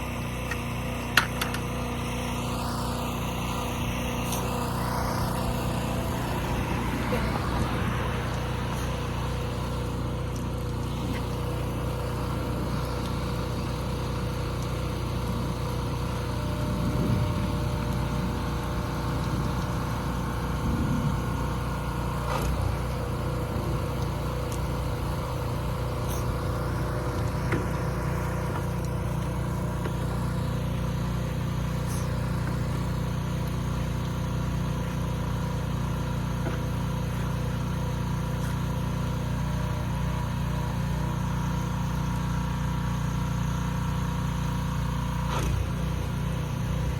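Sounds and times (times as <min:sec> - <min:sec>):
pressure washer engine running: 0:00.0 - 0:46.9.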